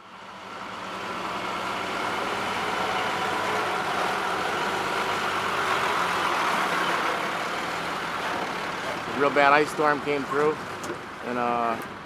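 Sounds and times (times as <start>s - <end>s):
diesel engine idling: 0.0s - 11.6s.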